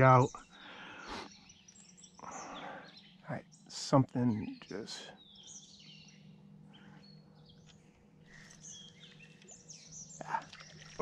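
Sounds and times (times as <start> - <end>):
faint birds chirping: 0.0 - 11.0
low steady hum: 0.0 - 11.0.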